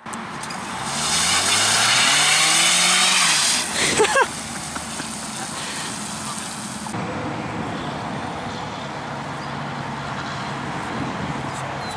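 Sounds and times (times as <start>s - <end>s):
tyres on wet pavement: 0.0s - 11.9s.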